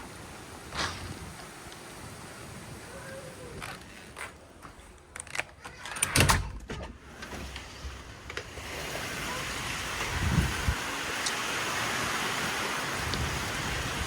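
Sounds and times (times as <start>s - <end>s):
wind and rain hiss: 0.0s - 4.9s, 7.0s - 14.0s.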